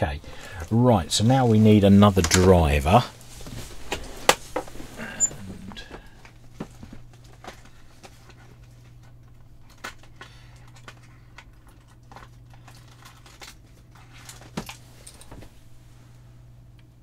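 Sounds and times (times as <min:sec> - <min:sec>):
steady low hum: 0:00.0 - 0:17.0
parts and packaging rustling: 0:00.2 - 0:15.6.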